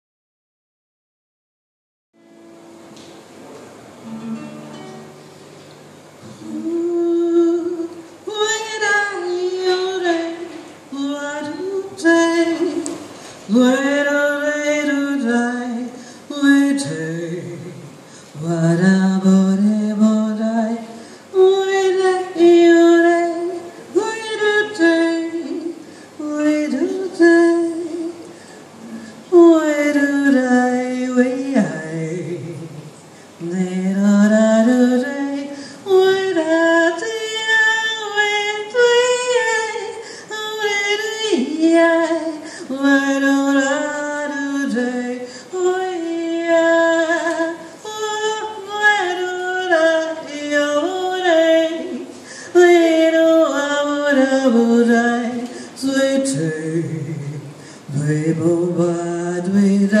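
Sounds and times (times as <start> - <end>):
woman singing unaccompanied: 6.2 - 28.3, 28.9 - 60.0.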